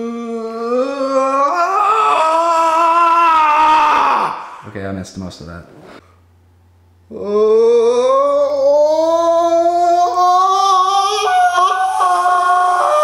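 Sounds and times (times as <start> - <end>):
young man roaring: 0.0 - 4.7, 7.1 - 13.0.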